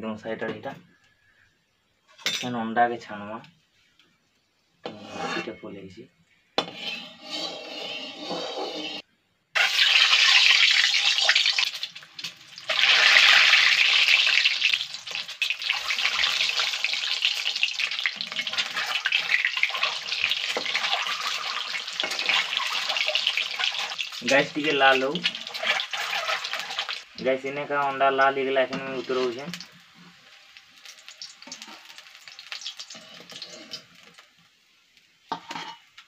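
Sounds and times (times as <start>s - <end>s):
eggs sizzling in hot oil: 6.6s - 36.0s.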